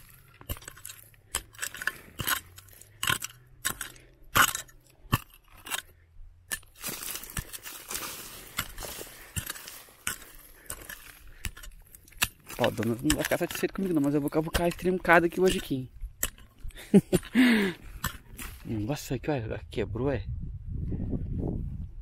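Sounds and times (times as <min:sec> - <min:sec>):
stones clicking and knocking: 0:00.0 - 0:18.7
gravel crunching scrape: 0:00.0 - 0:19.3.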